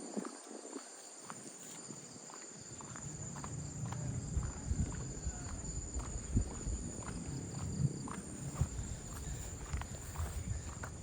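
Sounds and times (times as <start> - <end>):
footsteps on a path: 0.0 - 11.0
insects droning: 0.0 - 11.0.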